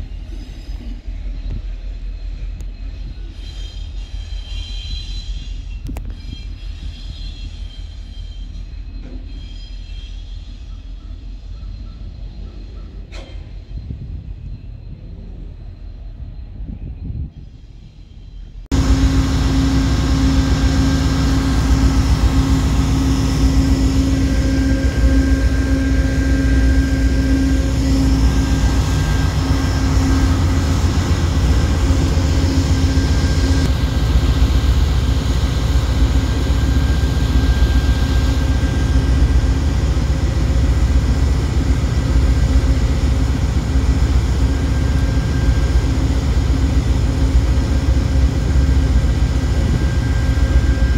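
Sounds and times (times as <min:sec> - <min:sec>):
locomotive engine rumble: 0:05.4 - 0:50.9.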